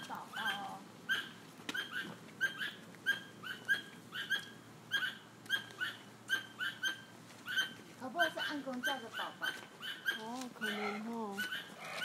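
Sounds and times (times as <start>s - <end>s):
bird chirping: 0.3s - 12.0s.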